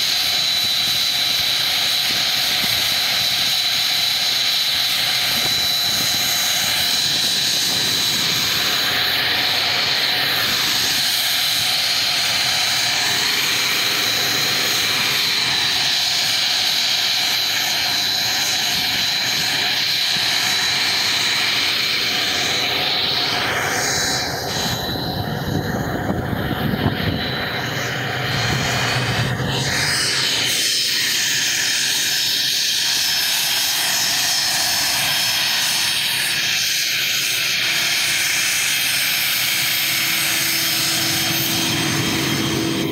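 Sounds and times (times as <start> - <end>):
propeller plane droning: 0.0 - 42.9.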